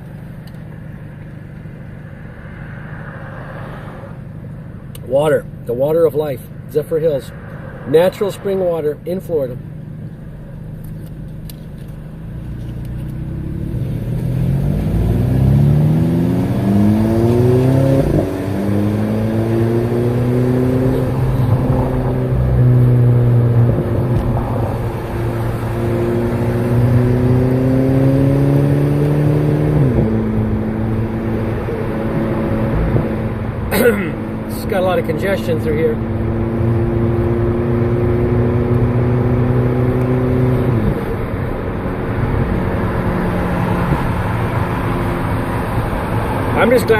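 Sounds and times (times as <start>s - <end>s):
turbocharged car engine accelerating: 0.0s - 46.9s.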